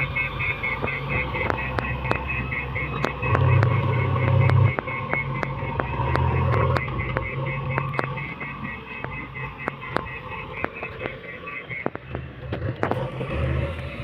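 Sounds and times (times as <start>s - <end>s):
diesel engine droning: 0.0s - 14.0s
sharp clicks and knocks: 0.7s - 13.9s.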